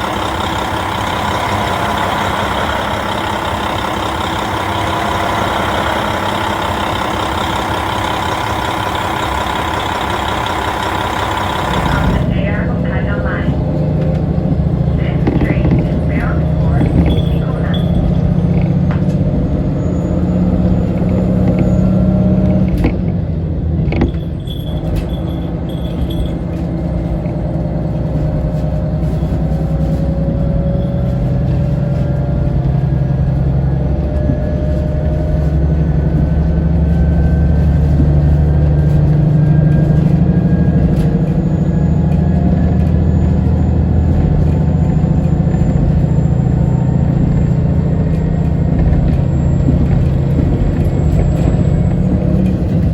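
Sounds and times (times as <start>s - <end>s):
railcar engine rumbling: 0.0s - 52.9s.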